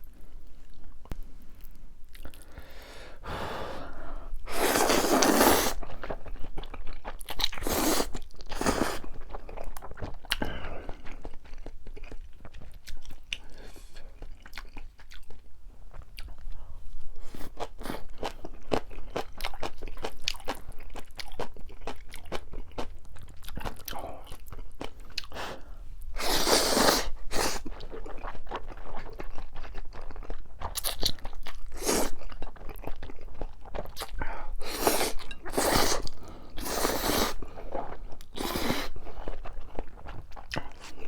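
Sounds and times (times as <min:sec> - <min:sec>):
crunching and chewing food: 0:00.0 - 0:02.8, 0:04.3 - 0:41.0.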